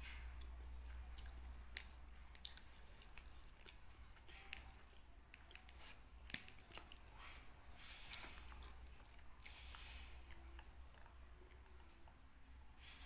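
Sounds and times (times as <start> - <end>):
chewing and wet mouth sounds: 0.0 - 12.6.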